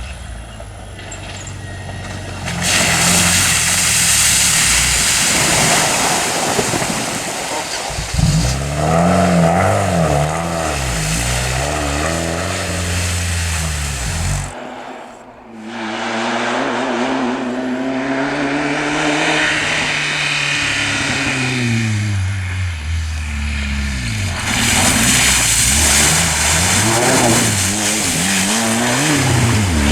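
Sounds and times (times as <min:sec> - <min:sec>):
louder vehicle engine rushing: 0:00.0 - 0:29.9
rally vehicle engine passing: 0:00.0 - 0:29.9.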